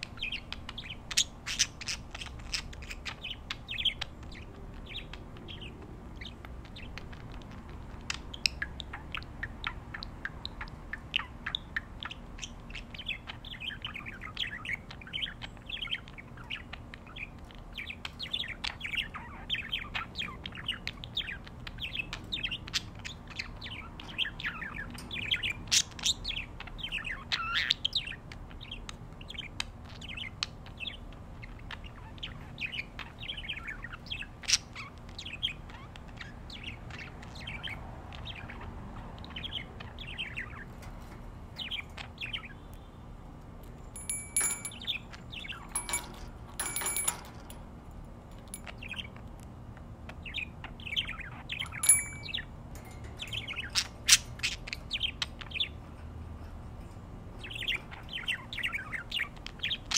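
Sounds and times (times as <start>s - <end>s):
budgerigars chirping and warbling: 0.0s - 43.0s, 44.0s - 47.5s, 48.3s - 59.9s.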